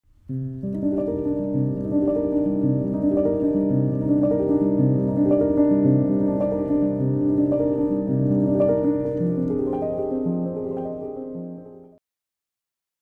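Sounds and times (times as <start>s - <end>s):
piano intro music: 0.2s - 12.0s.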